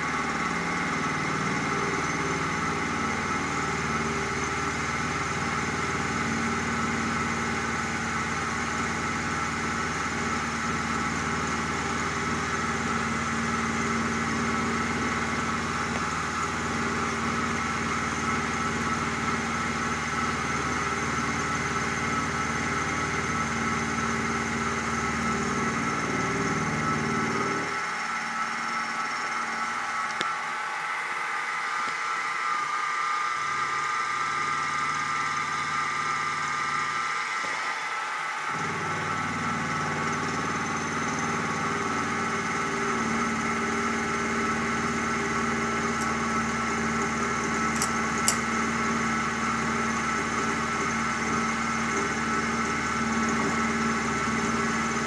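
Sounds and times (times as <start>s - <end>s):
milling spindle whine: 0.0s - 55.0s
rough hum of metal cutting: 0.0s - 55.0s.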